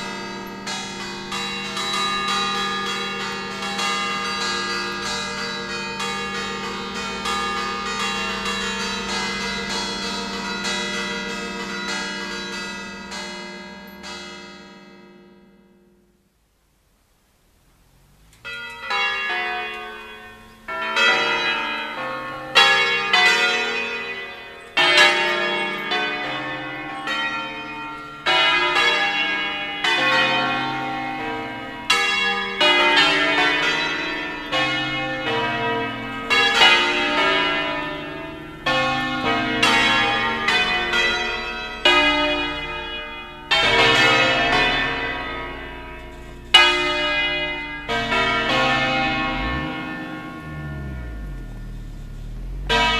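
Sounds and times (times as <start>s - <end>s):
church bells ringing: 0.0s - 52.9s.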